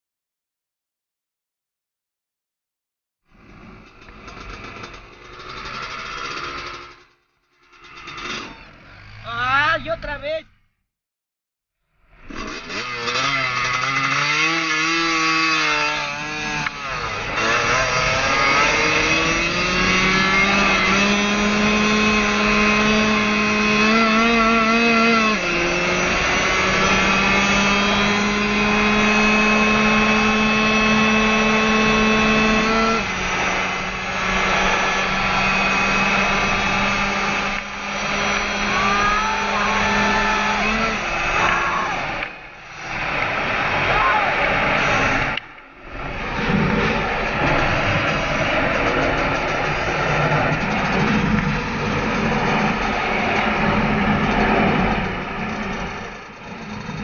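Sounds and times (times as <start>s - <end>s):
dirt bike engine shifting up: 3.3s - 10.2s, 12.1s - 57.0s.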